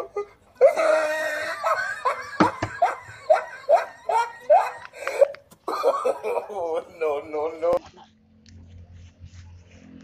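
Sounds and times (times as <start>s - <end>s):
person laughing: 0.0s - 8.1s.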